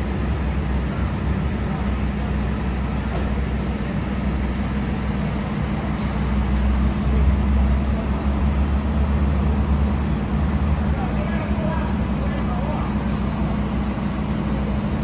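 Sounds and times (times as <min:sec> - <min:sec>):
street traffic noise: 0:00.0 - 0:15.0
vehicle engine idling: 0:00.0 - 0:15.0.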